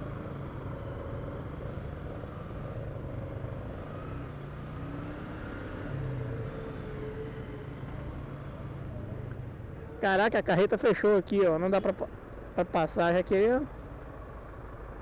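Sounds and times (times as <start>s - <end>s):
nearby trucks and motorcycles: 0.0s - 15.0s.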